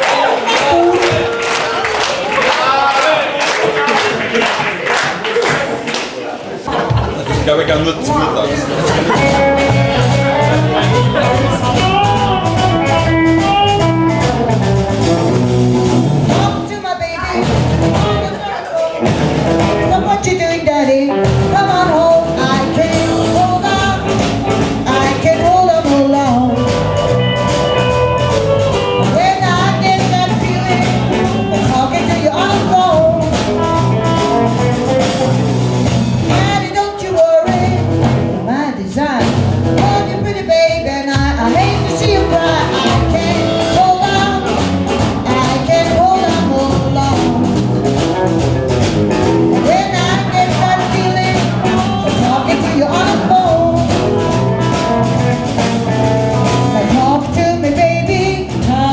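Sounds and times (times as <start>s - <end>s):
live blues rock band: 0.0s - 2.3s, 6.7s - 58.9s.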